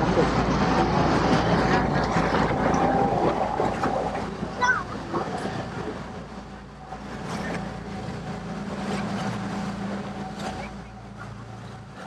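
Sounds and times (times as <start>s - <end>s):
ferry engine humming: 0.0s - 12.0s.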